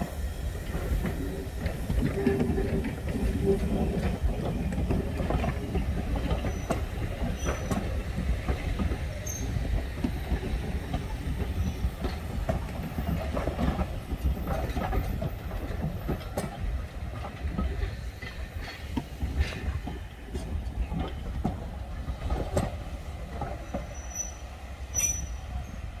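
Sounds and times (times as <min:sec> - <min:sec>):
wheels clacking over rail joints: 0:00.0 - 0:26.0
wheels rumbling on rails: 0:00.0 - 0:26.0.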